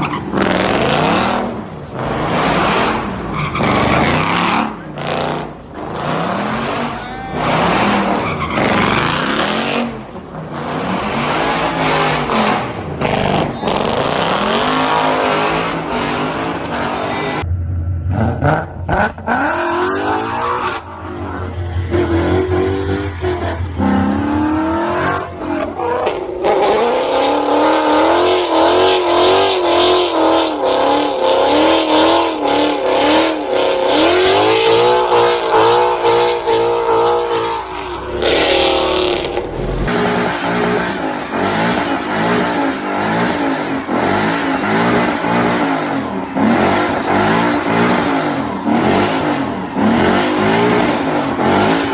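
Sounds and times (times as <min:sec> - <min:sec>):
car engines revving: 0:00.0 - 0:51.9.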